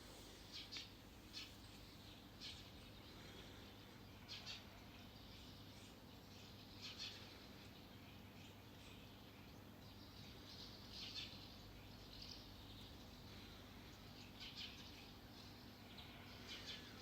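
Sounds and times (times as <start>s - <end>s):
small birds chirping: 0.0s - 17.0s
wind: 0.0s - 17.0s.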